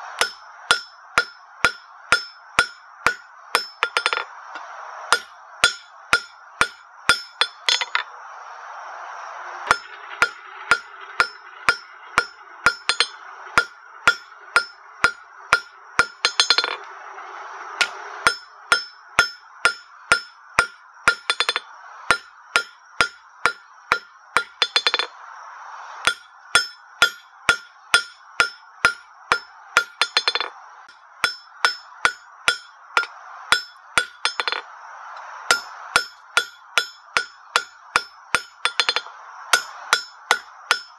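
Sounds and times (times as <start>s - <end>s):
hammer ringing on anvil: 0.2s - 4.3s, 5.1s - 8.0s, 9.7s - 16.8s, 17.8s - 25.1s, 26.0s - 30.5s, 31.2s - 34.6s, 35.5s - 40.9s.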